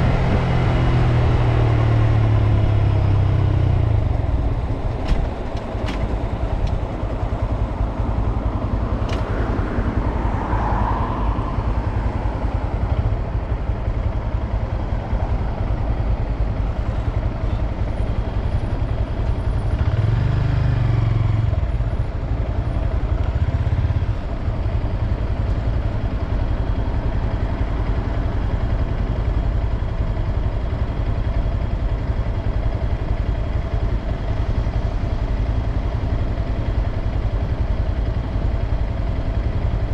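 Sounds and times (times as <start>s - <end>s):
motorcycle engine running: 0.0s - 10.5s, 11.6s - 39.9s.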